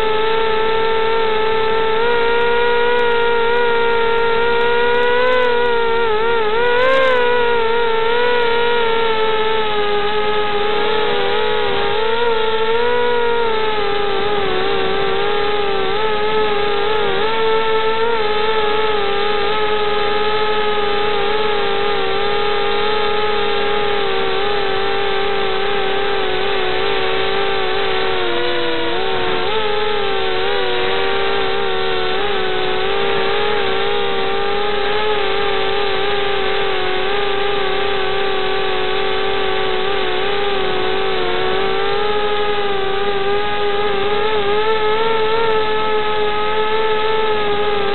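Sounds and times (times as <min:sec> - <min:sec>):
quadcopter motors whining: 0:00.0 - 0:47.9.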